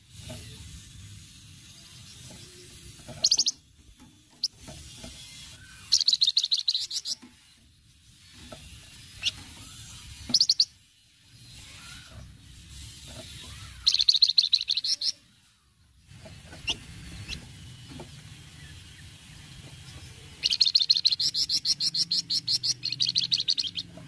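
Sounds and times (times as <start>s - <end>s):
songbird rattling chatter: 0.2s - 15.2s, 16.1s - 24.0s.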